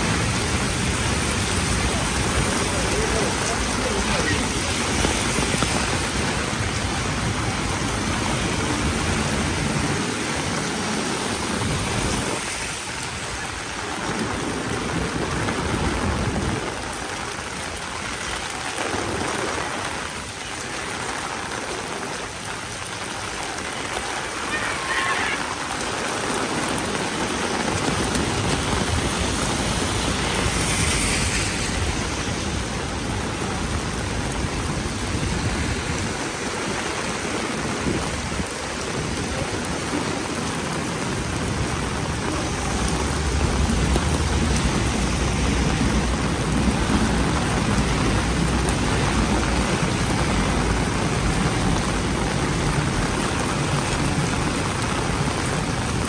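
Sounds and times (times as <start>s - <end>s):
rain on street: 0.0s - 56.0s.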